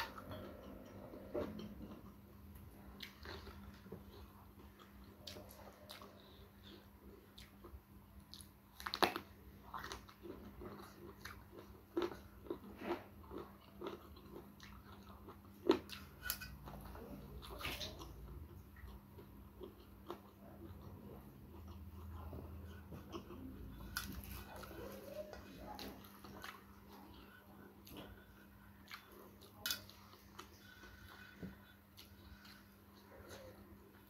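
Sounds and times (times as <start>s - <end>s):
chewing and crunching vegetables: 0.0s - 34.0s.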